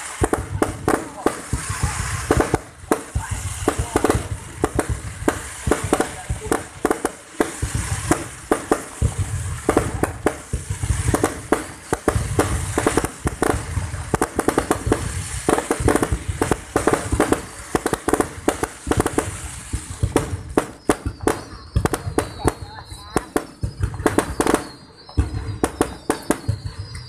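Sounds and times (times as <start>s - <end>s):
deep fireworks booms: 0.0s - 27.0s
fireworks popping and crackling: 0.0s - 27.0s.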